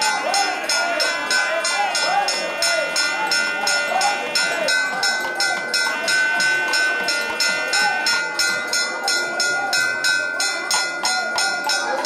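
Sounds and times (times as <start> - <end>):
crowd voices: 0.0 - 12.0
metal bell clanging rapidly: 0.0 - 12.0.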